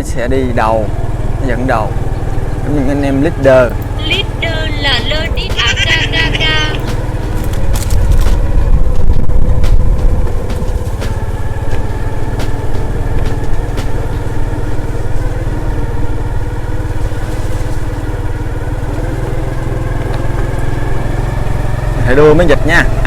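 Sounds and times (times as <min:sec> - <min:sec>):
motorbike engine humming: 0:00.0 - 0:23.0.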